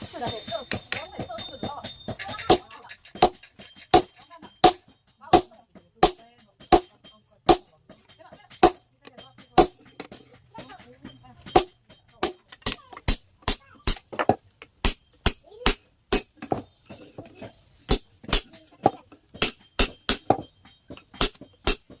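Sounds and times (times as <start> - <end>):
hammer striking metal: 0.0 - 22.0.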